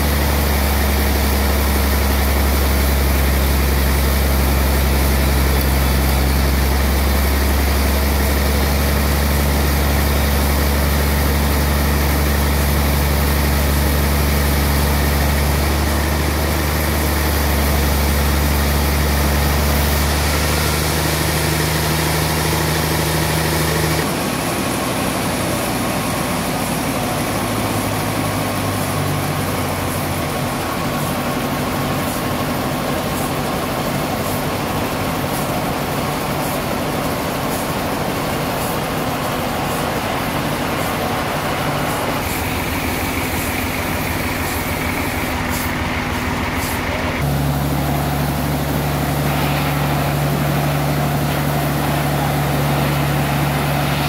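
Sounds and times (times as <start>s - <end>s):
band saw droning: 0.0s - 54.0s
rough machine noise: 0.0s - 54.0s.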